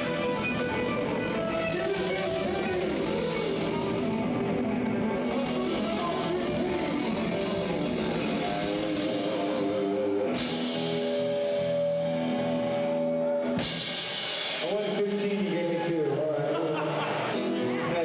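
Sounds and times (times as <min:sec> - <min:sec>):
rock band music: 0:00.0 - 0:18.0.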